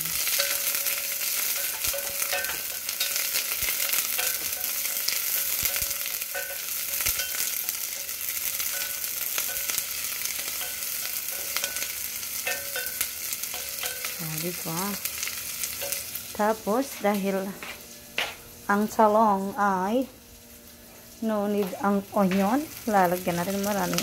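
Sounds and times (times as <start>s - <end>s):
garlic and onion sizzling: 0.0s - 24.0s.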